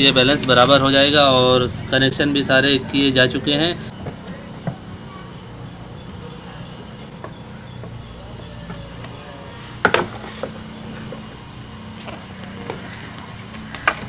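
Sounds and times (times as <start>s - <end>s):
washing machine motor humming: 0.0s - 14.0s.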